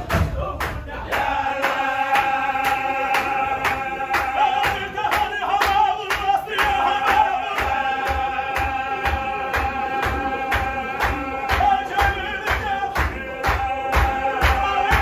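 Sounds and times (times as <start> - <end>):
hand-claps: 0.0 - 15.0
men chanting on a held note: 0.0 - 15.0.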